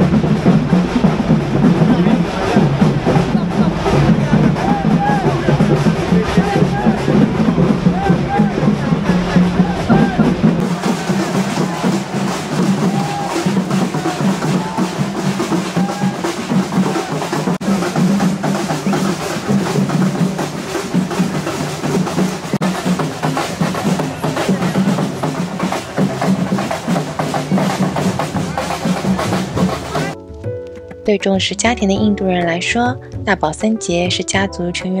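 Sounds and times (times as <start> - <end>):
fast dense drumming: 0.0 - 30.2.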